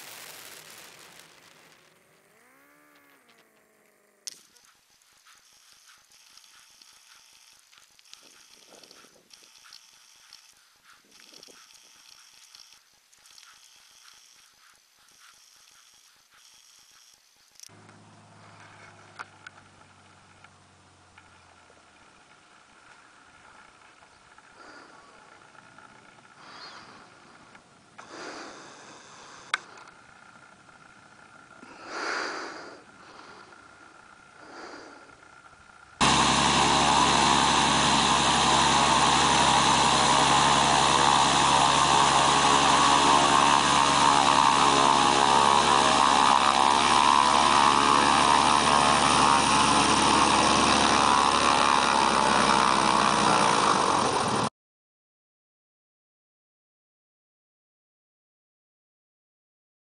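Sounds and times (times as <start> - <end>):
light plane propeller engine: 0.0 - 54.5.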